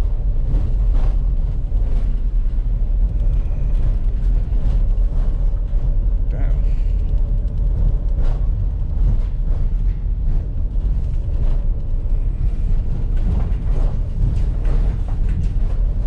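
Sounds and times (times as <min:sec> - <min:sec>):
van engine and road rumble: 0:00.0 - 0:16.0
light knocks and rattles: 0:00.4 - 0:16.0.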